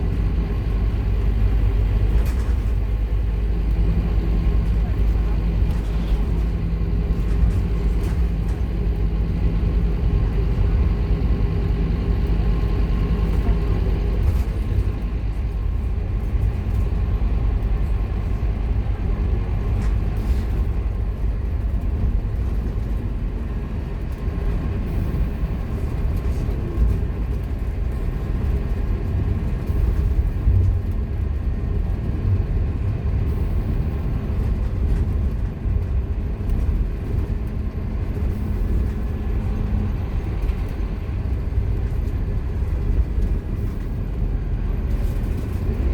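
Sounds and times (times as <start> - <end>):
bus diesel engine droning: 0.0 - 45.9
road noise: 0.0 - 45.9.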